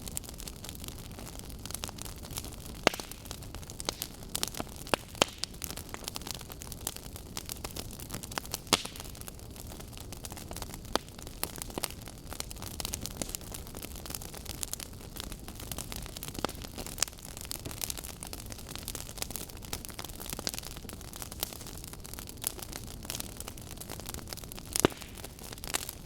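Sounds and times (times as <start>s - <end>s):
burning logs crackling: 0.0s - 26.0s
low rush of flames: 0.0s - 26.0s.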